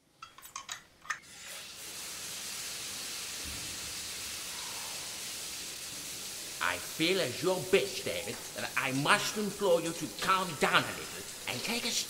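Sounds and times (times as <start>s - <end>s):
shower spray running: 1.2s - 12.0s.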